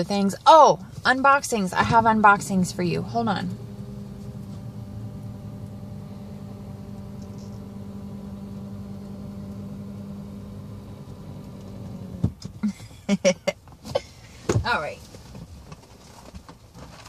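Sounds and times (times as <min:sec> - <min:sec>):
car engine idling: 0:00.5 - 0:14.9.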